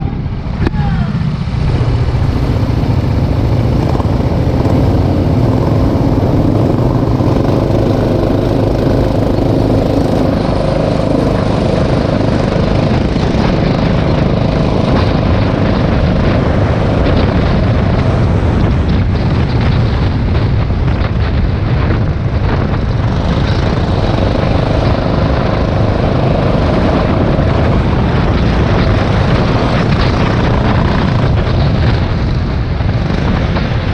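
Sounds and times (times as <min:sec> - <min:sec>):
go-kart engine running: 0:00.0 - 0:33.9.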